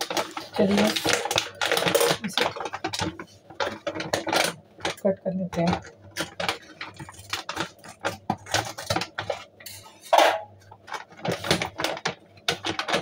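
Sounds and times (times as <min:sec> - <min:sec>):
plastic snack packet crinkling: 0:00.0 - 0:09.8, 0:10.6 - 0:13.0.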